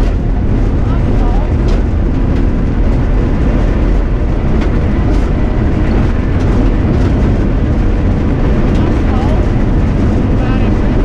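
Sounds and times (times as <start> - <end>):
car engine running hard: 0.0 - 11.0
tyre and road noise: 0.0 - 11.0.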